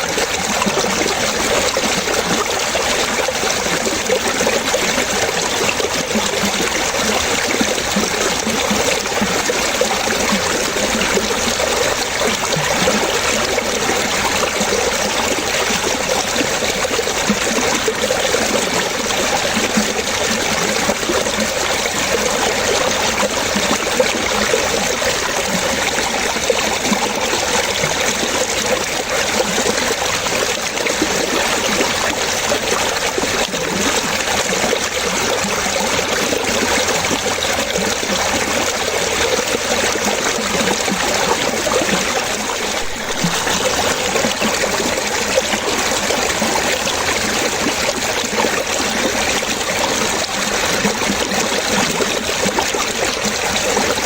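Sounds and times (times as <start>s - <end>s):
water splashing over stones: 0.0s - 54.0s.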